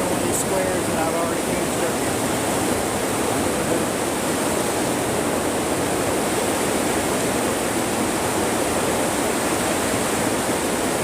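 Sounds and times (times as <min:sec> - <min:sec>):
heavy rain on greenhouse: 0:00.0 - 0:11.0.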